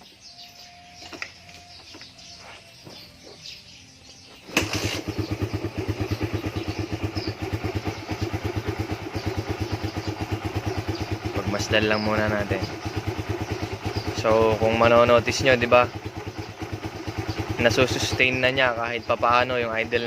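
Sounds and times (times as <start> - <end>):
engine idling: 0.0 - 20.0
faint bird chirps: 0.0 - 20.0
motorcycle engine kick-started: 0.0 - 20.0.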